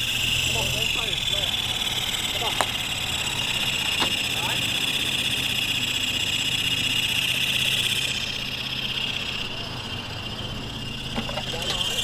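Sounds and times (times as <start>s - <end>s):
insect chorus drone: 0.0s - 12.0s
vehicle engine idling: 0.0s - 12.0s.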